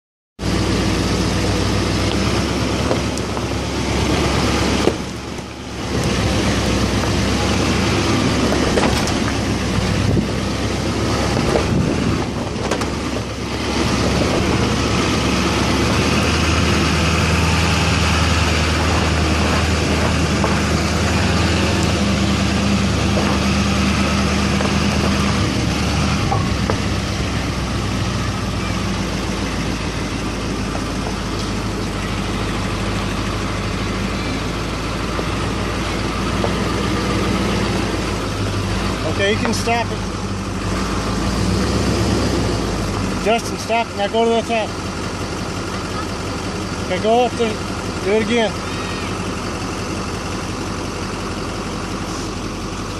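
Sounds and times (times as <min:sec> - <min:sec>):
truck engine running: 0:00.4 - 0:52.9
tyres rolling over loose stones: 0:01.1 - 0:52.9.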